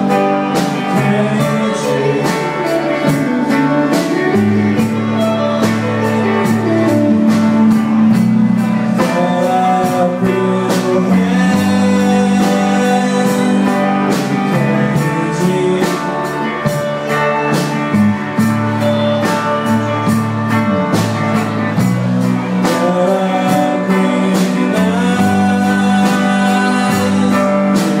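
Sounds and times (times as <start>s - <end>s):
man singing: 0.0s - 17.8s, 18.6s - 28.0s
electric guitars: 0.0s - 28.0s.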